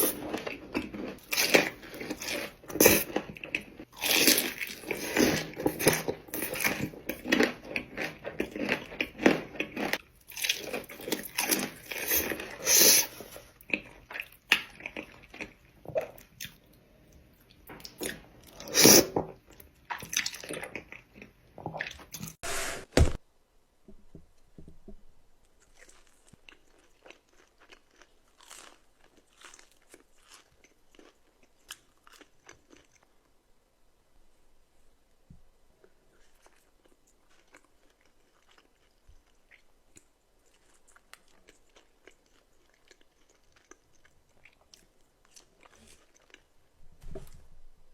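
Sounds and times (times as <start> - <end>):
person chewing crunchy food: 0.0 - 22.4, 25.5 - 33.2, 35.8 - 46.7.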